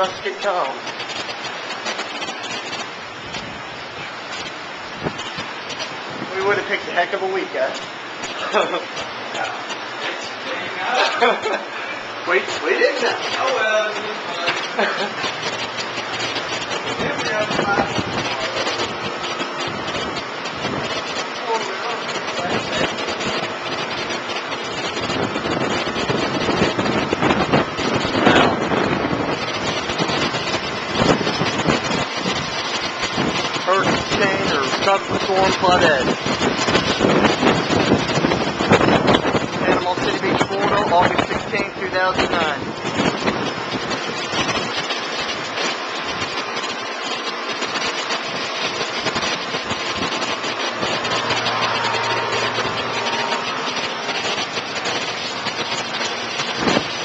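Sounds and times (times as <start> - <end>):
strong wind buffeting microphone: 0.0 - 13.9, 14.6 - 57.0.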